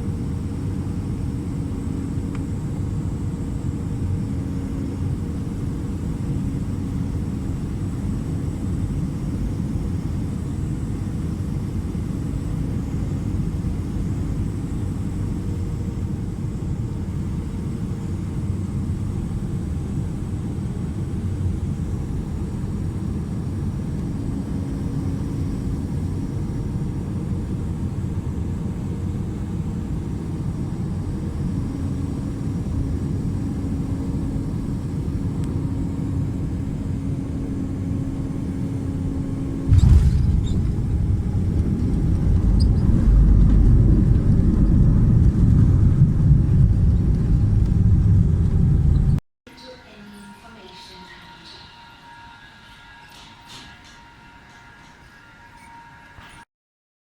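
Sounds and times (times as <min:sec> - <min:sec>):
airplane cabin engine rumble: 0:00.0 - 0:49.2.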